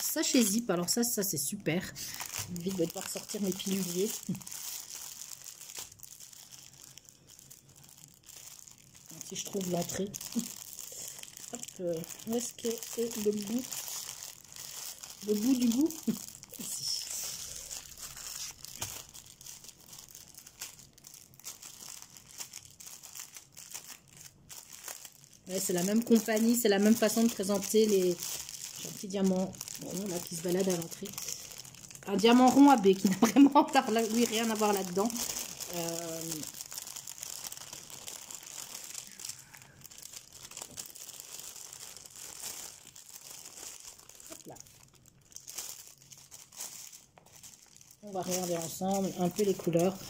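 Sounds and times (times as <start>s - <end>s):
plastic bags crinkling: 0.0s - 50.0s.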